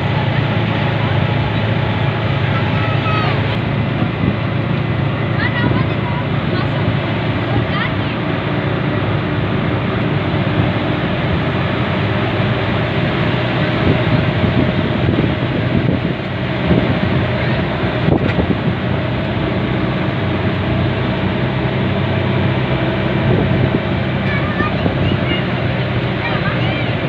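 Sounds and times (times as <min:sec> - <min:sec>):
vehicle engine hum: 0:00.0 - 0:27.0.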